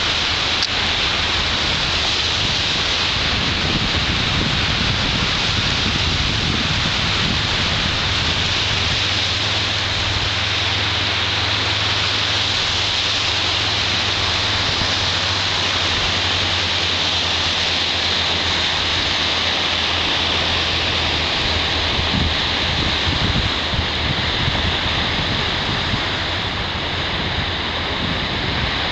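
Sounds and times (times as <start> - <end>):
low rumble: 0.0 - 28.9
surf breaking on beach: 0.0 - 28.9.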